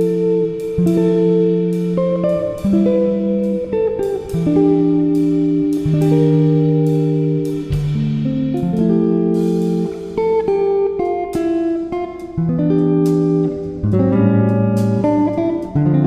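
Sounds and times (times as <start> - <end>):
instrumental background music: 0.0 - 16.0.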